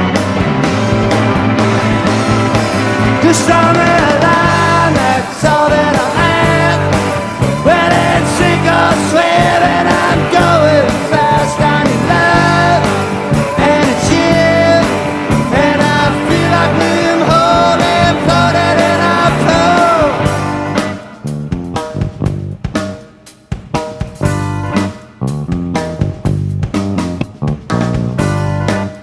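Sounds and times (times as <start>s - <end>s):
rock song with singing: 0.0s - 29.0s.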